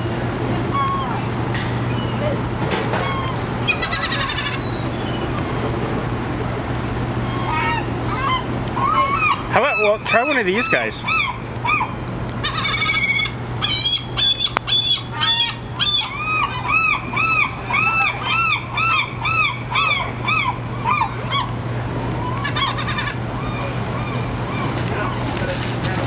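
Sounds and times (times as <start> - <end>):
gulls calling: 0.0 - 26.0.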